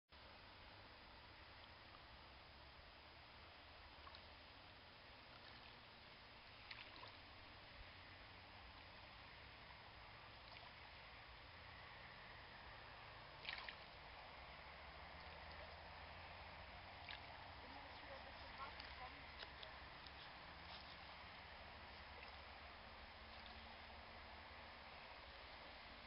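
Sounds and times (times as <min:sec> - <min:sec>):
splashing creek water: 0:00.2 - 0:26.0
steady hiss: 0:00.2 - 0:26.0.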